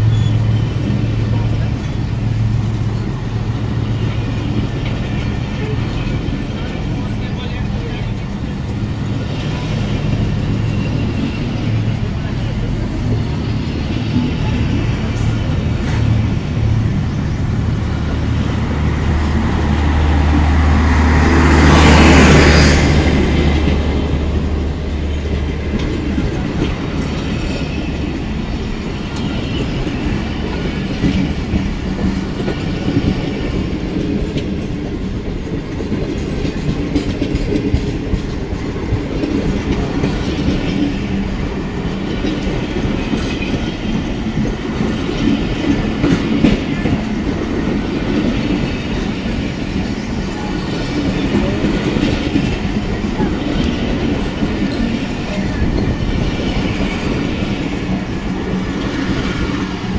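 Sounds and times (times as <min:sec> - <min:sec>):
train wheels clicking over joints: 0:00.1 - 0:59.9.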